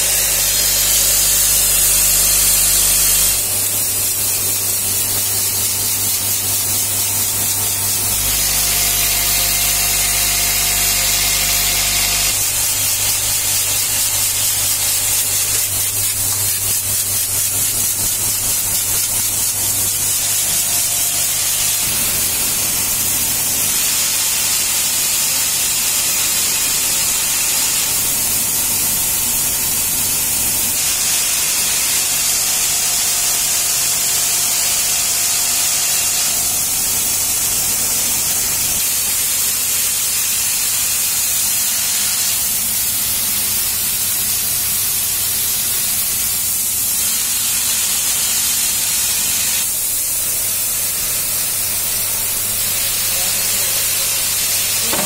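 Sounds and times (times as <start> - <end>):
sorting machine hiss: 0.0 - 55.0.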